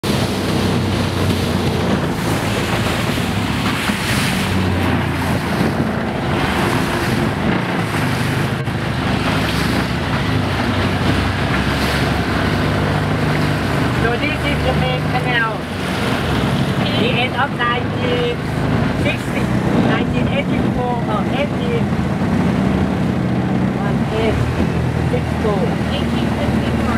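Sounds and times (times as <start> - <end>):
wind buffeting microphone: 0.0 - 14.4, 15.3 - 26.9
boat engine running: 0.0 - 26.9
rushing water: 0.0 - 26.9.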